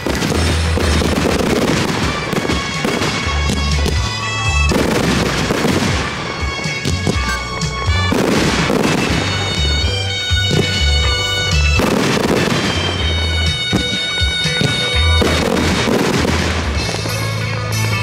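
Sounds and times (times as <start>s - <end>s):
fireworks bursting and crackling: 0.0s - 18.0s
loud music with heavy bass: 0.0s - 18.0s.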